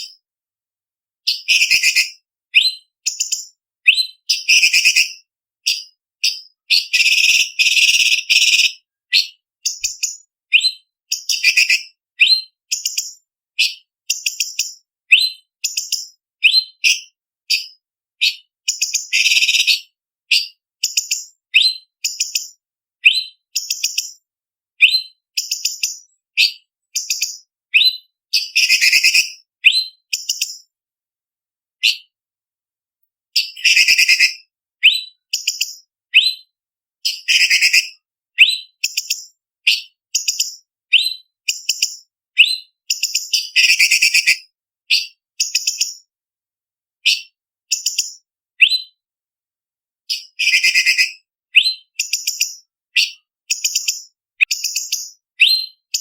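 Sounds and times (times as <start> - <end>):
bird singing high whistled notes: 1.3 - 24.2, 24.8 - 30.6, 33.4 - 36.5, 37.1 - 46.0, 47.0 - 49.0, 50.1 - 56.0.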